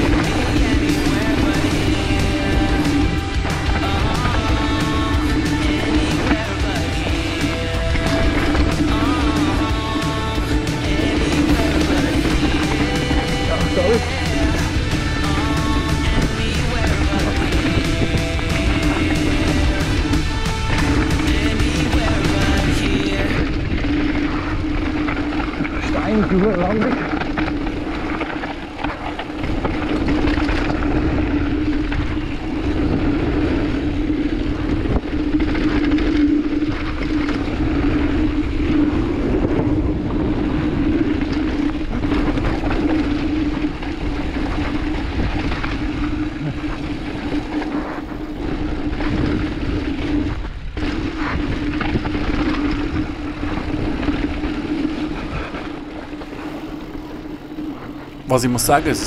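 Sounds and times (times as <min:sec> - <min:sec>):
bike rattling: 0:00.0 - 0:59.0
steady buzz: 0:00.0 - 0:59.0
tyre and wind noise: 0:00.0 - 0:59.0.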